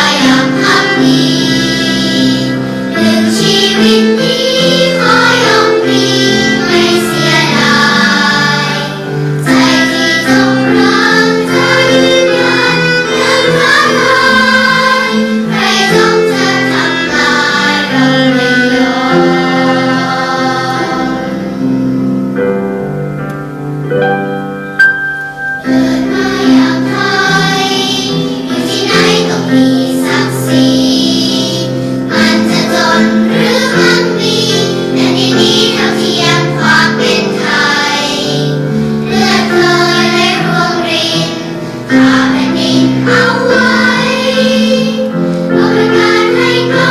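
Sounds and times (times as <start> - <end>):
children's choir singing: 0.0 - 22.6, 24.8 - 46.9
instrumental accompaniment: 0.0 - 46.9.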